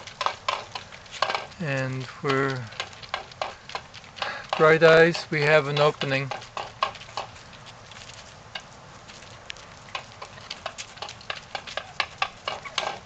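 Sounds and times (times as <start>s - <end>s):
turkeys pecking clicks and taps: 0.0s - 13.0s.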